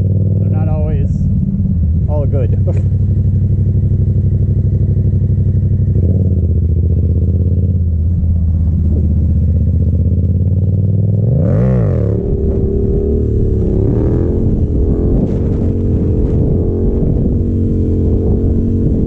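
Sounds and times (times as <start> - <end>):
motorcycle engine running and revving: 0.0 - 19.0.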